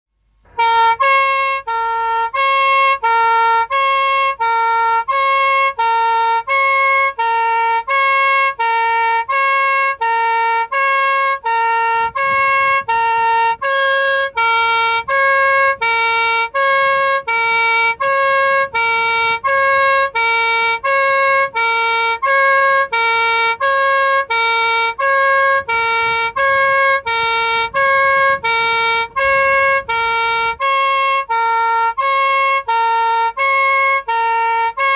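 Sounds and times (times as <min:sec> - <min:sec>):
police car two-tone siren: 0:00.6 - 0:34.9.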